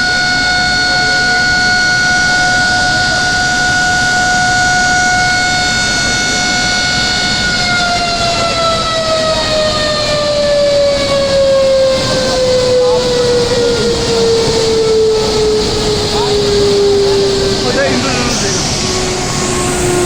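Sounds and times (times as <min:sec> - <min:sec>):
steady background noise: 0:00.0 - 0:20.0
steady high siren tone: 0:00.0 - 0:20.0.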